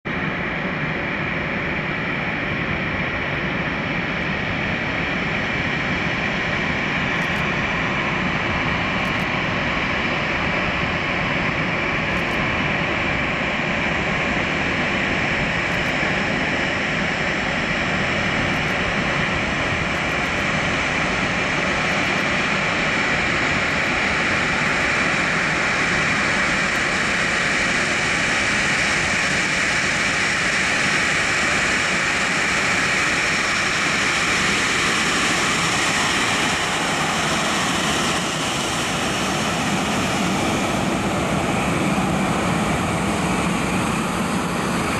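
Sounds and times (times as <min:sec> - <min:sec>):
jet engines whining at taxi power: 0:00.0 - 0:44.9.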